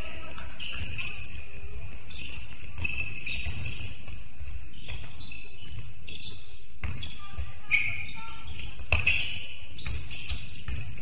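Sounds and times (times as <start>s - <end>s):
shoes squeaking on hardwood court: 0.0s - 11.0s.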